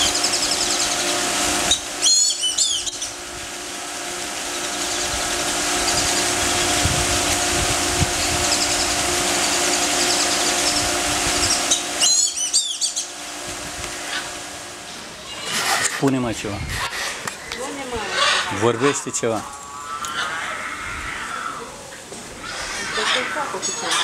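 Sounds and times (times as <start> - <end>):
birds chattering calls: 0.0 - 24.0
steady mechanical hum: 0.0 - 24.0.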